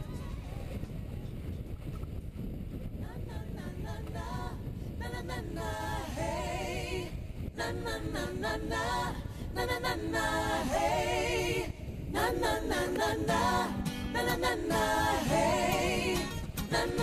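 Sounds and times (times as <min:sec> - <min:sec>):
person singing with vibrato: 0:03.0 - 0:17.0.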